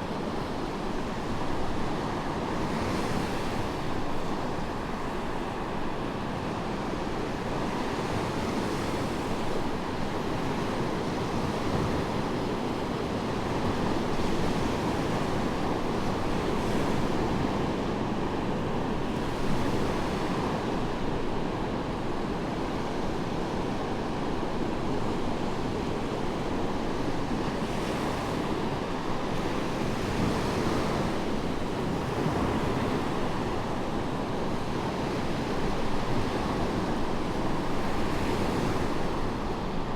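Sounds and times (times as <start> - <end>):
waves breaking on beach: 0.0 - 39.9
wind: 0.0 - 39.9.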